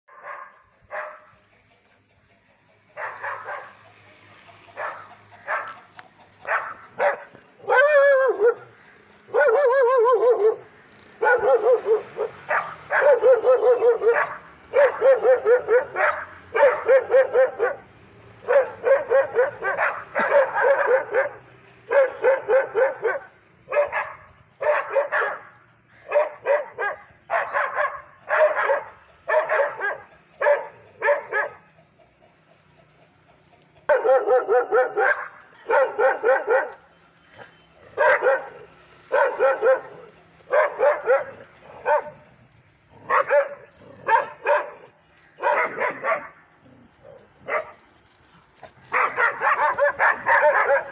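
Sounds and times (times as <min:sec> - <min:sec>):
dog barking aggressively: 0:00.1 - 0:01.3, 0:03.0 - 0:03.8, 0:04.8 - 0:05.8, 0:06.4 - 0:31.7, 0:33.9 - 0:36.8, 0:37.9 - 0:42.3, 0:43.0 - 0:46.4, 0:47.0 - 0:47.8, 0:48.8 - 0:50.9.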